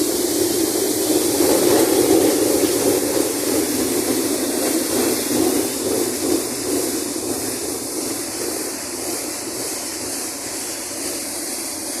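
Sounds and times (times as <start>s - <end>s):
compressed air and water gushing: 0.0s - 12.0s.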